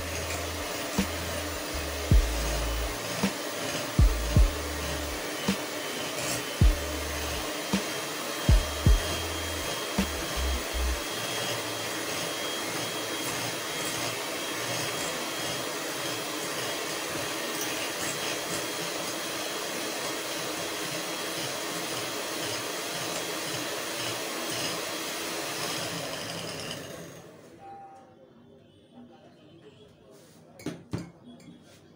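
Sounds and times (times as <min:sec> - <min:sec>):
electric hand mixer running: 0:00.0 - 0:27.4.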